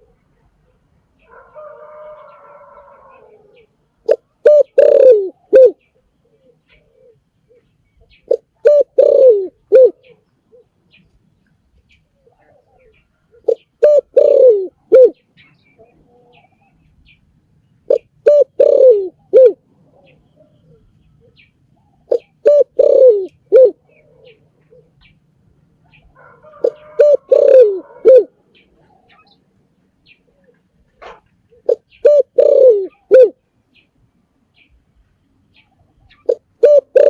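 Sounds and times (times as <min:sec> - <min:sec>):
dove cooing: 0:00.0 - 0:10.9, 0:12.1 - 0:16.8, 0:17.8 - 0:25.2, 0:25.8 - 0:29.4, 0:30.0 - 0:33.4, 0:35.6 - 0:37.0.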